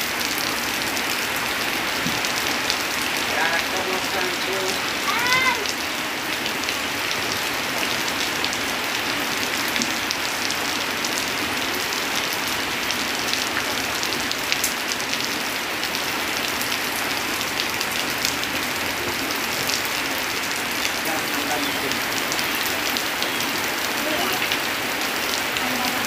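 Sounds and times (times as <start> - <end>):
heavy rain on a tin roof: 0.0 - 26.0
water streaming off roof: 0.0 - 26.0.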